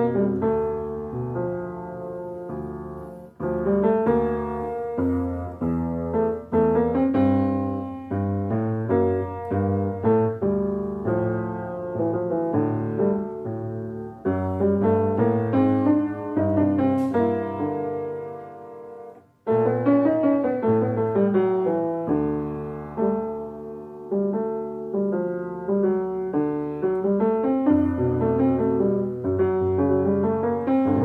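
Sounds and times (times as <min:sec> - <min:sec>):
piano chords and notes: 0:00.0 - 0:31.0.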